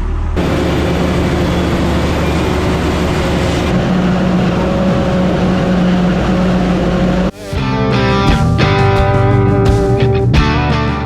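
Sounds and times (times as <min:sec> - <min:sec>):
diesel farm machinery running: 0:00.0 - 0:11.0.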